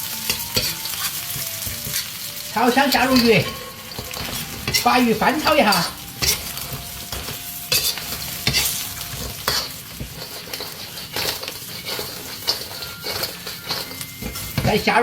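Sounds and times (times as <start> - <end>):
fish sizzling in hot oil: 0.0 - 15.0
spatula scraping and tossing in wok: 0.0 - 15.0.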